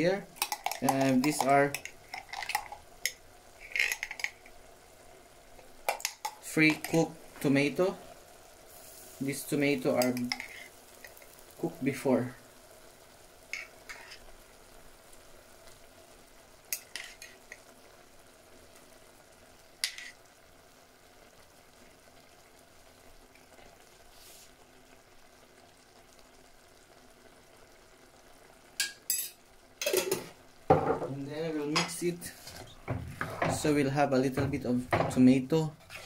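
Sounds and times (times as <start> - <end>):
sauce hissing in pot: 0.0 - 36.0.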